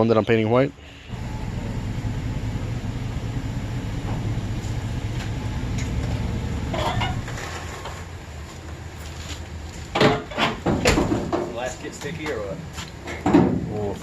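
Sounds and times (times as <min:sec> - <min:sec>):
vehicle engine rumbling: 0:00.8 - 0:14.0.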